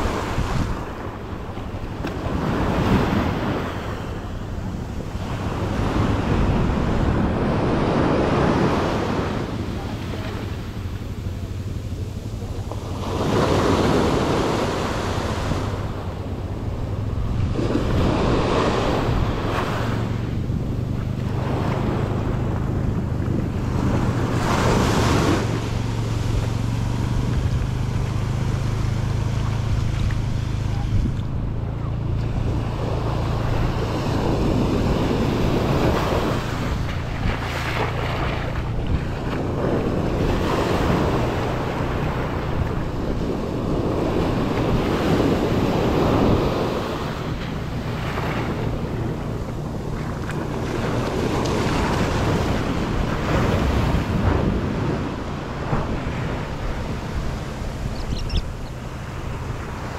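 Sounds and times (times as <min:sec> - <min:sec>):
surf breaking on sand: 0:00.0 - 0:59.9
wind rumbling on microphone: 0:00.0 - 0:59.9.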